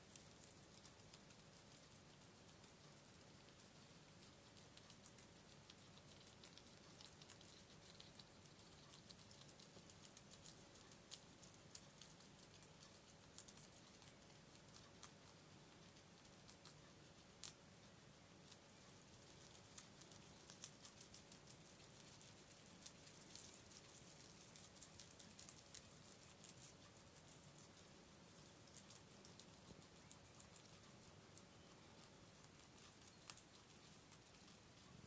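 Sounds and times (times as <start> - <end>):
guinea pigs chewing leaves: 0.0 - 35.0.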